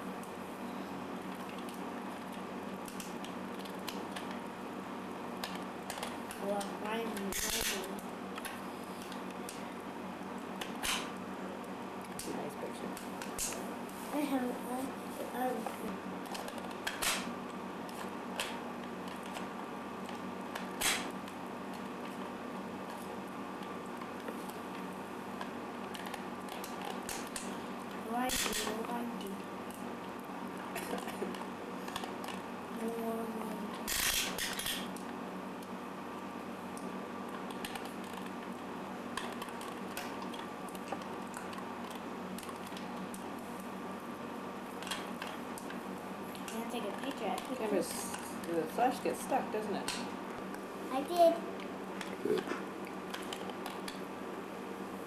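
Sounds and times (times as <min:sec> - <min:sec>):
steady background hiss and hum: 0:00.0 - 0:55.0.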